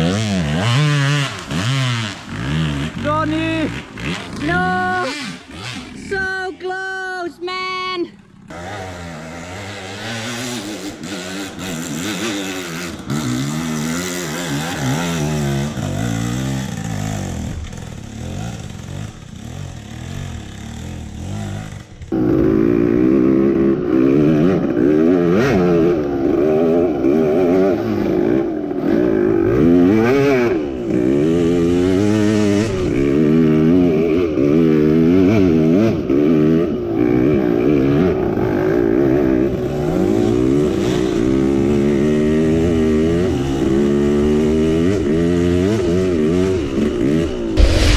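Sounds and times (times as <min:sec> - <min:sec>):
dirt bike engine revving: 0:00.0 - 0:06.4, 0:08.3 - 0:47.9.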